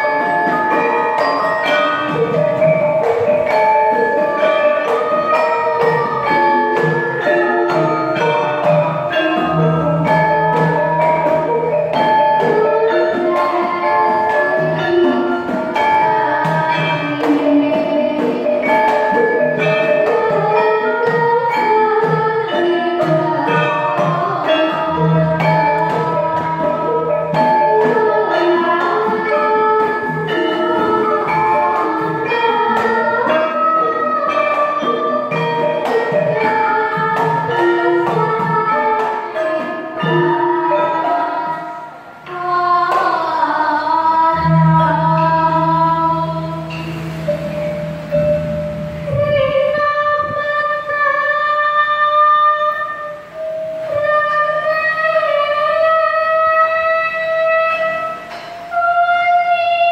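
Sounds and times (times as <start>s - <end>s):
girl singing into microphone: 0.0s - 59.9s
hand drum: 0.0s - 59.9s
metallophones and gongs ringing: 0.0s - 59.9s.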